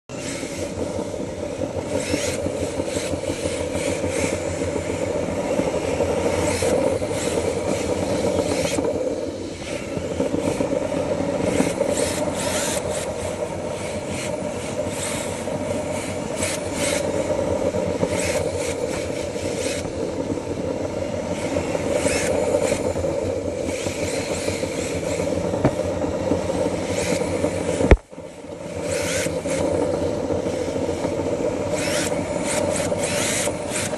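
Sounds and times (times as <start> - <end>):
hum of toy car motors: 0.1 - 33.9.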